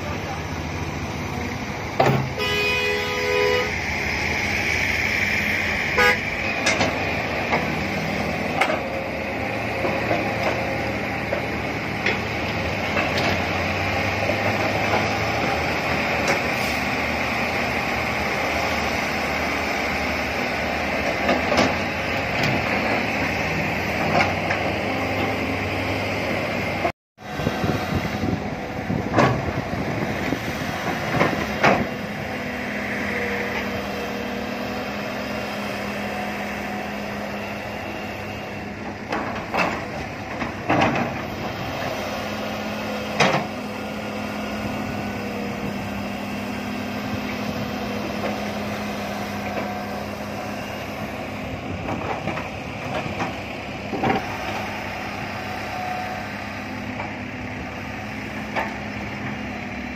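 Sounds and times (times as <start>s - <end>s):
excavator diesel engine: 0.0s - 59.9s
hydraulic whine: 0.0s - 59.9s.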